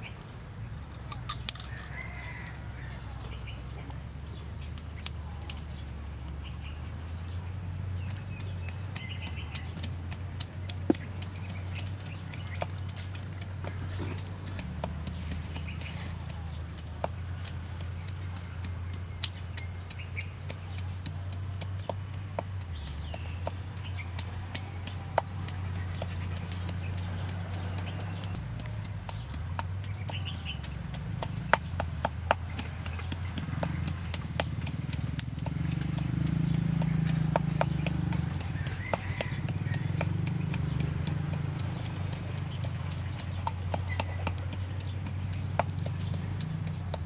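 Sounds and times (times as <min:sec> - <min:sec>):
wooden pestle pounding in mortar: 0:07.1 - 0:47.0.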